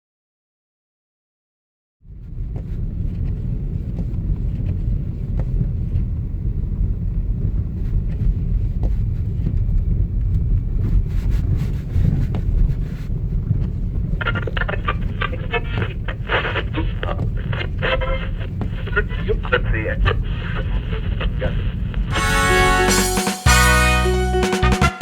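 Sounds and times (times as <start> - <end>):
low rumbling noise: 2.1 - 23.0.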